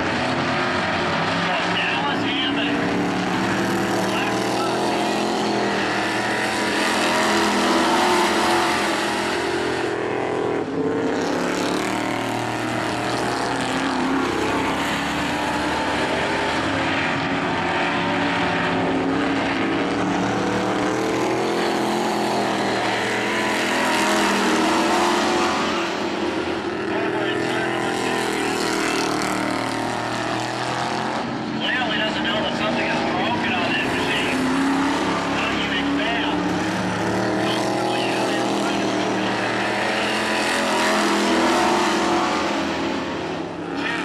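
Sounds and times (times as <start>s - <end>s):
race car engines passing: 0.0s - 44.0s.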